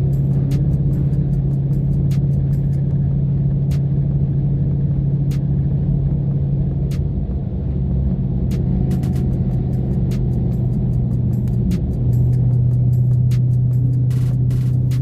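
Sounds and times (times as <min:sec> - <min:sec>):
car engine and road drone: 0:00.0 - 0:15.0.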